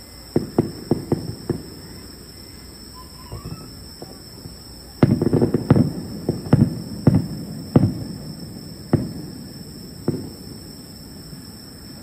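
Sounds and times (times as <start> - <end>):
firework booms with rumbling tail: 0.3 - 2.0, 3.2 - 11.6.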